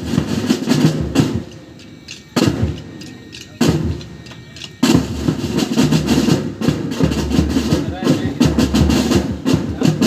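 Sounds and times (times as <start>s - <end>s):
bass and snare drums playing: 0.0s - 1.7s, 2.3s - 10.0s.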